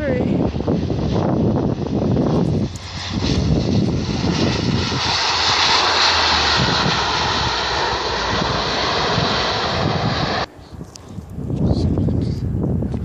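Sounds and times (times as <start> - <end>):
turboprop engines roaring: 0.0 - 13.0.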